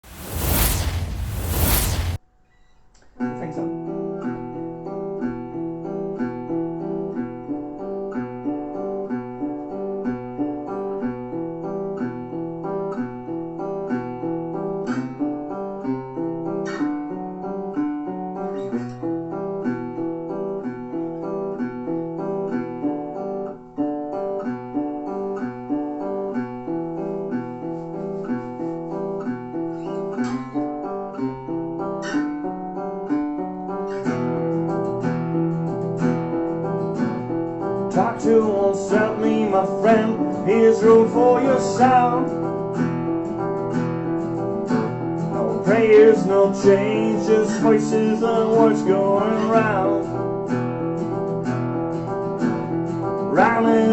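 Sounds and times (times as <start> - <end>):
acoustic guitar picked and strummed: 2.6 - 53.9.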